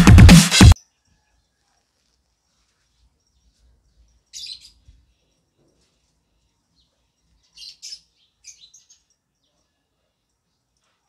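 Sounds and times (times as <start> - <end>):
small birds chirping: 2.0 - 11.0.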